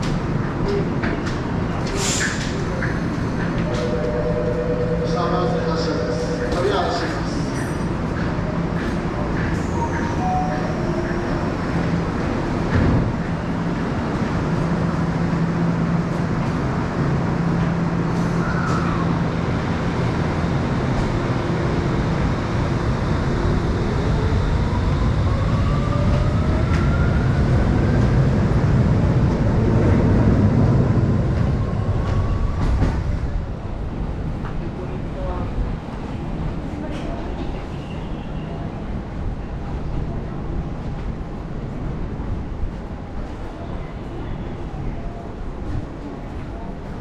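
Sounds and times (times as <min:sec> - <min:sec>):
electric train low hum: 0:00.0 - 0:47.0.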